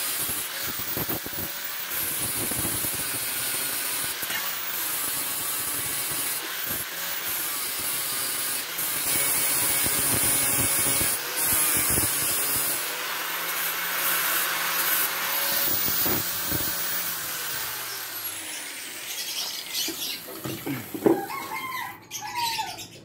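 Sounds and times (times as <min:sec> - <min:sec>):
angle grinder whining: 0:00.0 - 0:21.6.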